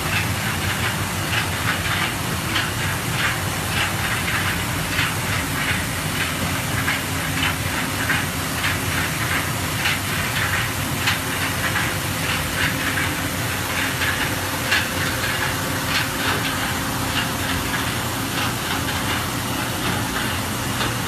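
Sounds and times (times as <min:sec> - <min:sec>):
machining center hum and hiss: 0:00.0 - 0:21.0.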